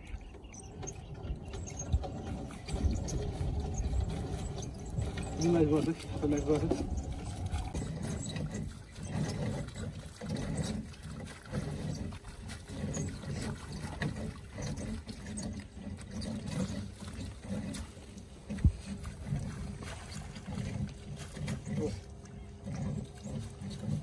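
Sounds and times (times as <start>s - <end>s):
water streaming and dripping: 0.0s - 24.0s
wet net hauled from water: 0.0s - 24.0s.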